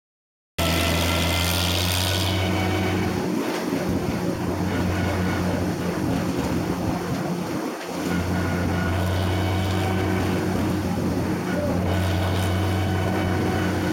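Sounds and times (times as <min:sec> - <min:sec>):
tractor engine humming: 0:00.6 - 0:13.9.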